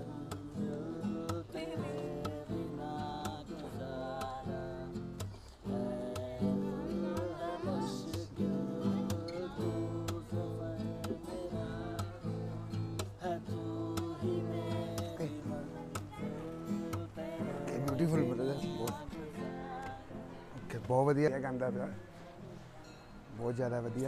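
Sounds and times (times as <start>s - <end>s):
man singing: 0.0s - 22.4s
acoustic guitar strumming chords: 0.0s - 24.0s.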